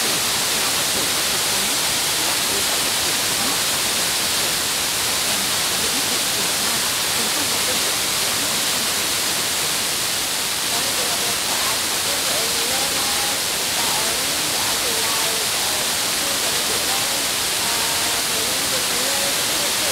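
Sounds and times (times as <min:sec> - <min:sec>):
radio static hiss: 0:00.0 - 0:19.9.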